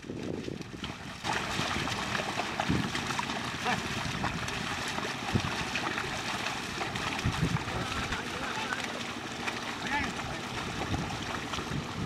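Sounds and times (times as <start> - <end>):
hooves thudding in mud: 0.0 - 12.0
muddy water sloshing: 0.0 - 12.0.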